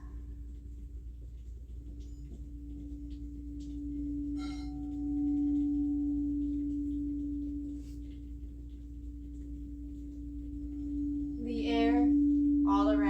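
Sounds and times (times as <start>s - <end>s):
singing bowl tone: 0.0s - 0.7s, 1.8s - 13.0s
singing bowl struck: 2.0s - 13.0s.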